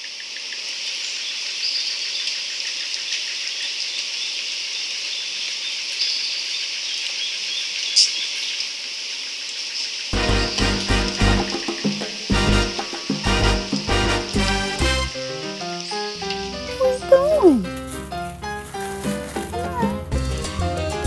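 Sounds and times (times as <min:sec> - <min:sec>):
steady high-pitched hiss: 0:00.0 - 0:19.3.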